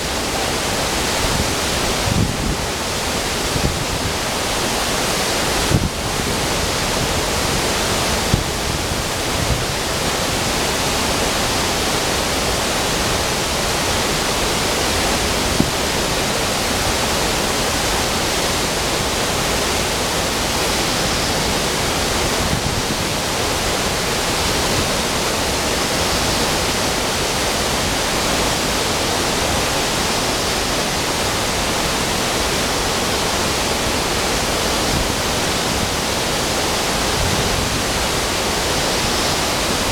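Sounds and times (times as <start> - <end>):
river running over boulders: 0.0 - 39.9
waterfall rushing: 0.0 - 39.9.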